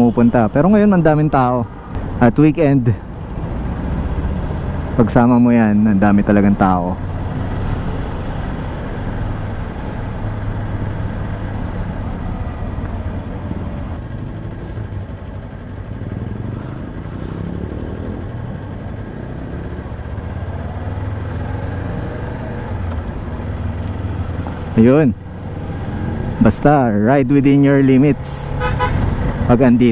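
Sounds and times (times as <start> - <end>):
wind and road noise: 0.0 - 29.9.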